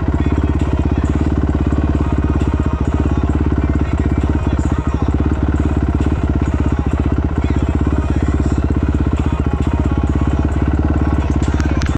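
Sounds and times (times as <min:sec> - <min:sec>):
dirt bike engine idling: 0:00.0 - 0:11.9.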